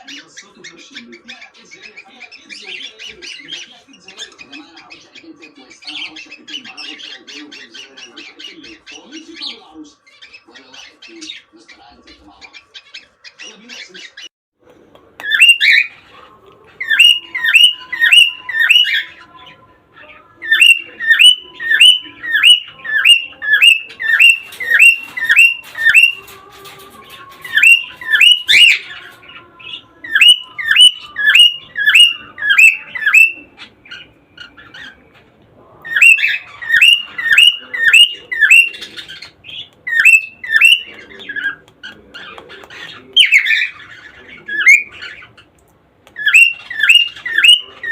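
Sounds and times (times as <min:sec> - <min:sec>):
cockatiels chirping: 0:00.0 - 0:14.3, 0:15.2 - 0:47.9.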